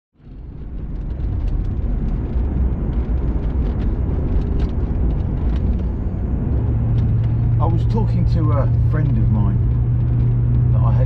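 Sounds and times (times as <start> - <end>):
car engine and road rumble: 0.2 - 11.0.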